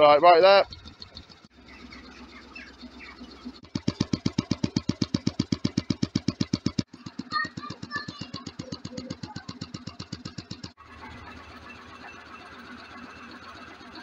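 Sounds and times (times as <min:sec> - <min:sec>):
stirling engine rhythmic knocking: 0:00.0 - 0:14.0.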